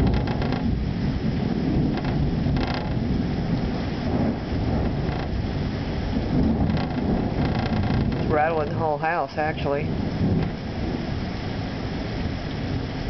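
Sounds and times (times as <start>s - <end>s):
rain: 0.0s - 13.0s
thunder rumbling: 0.0s - 13.0s.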